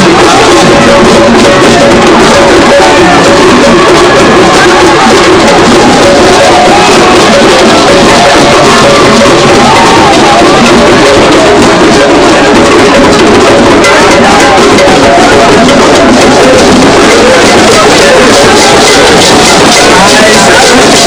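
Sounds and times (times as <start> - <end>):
crowd noise: 0.0 - 21.0
drumming: 0.0 - 21.0
many voices singing: 0.0 - 21.0.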